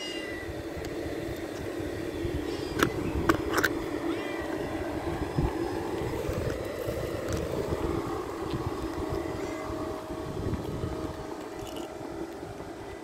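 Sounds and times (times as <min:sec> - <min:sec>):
faint steady hum: 0:00.0 - 0:13.0
low outdoor rumble: 0:00.0 - 0:13.0.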